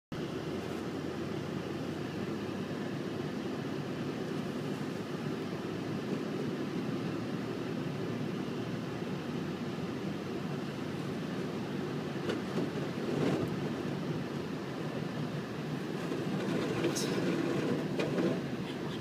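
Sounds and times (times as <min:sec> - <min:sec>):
car driving on wet road: 0:00.2 - 0:19.0.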